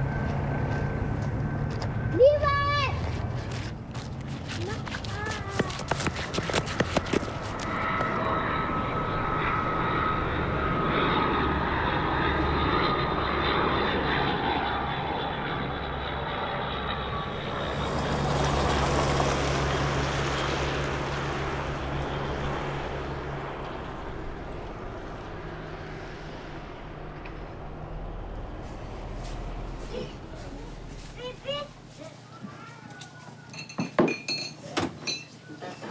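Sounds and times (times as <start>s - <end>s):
steady engine drone: 0.0s - 32.4s.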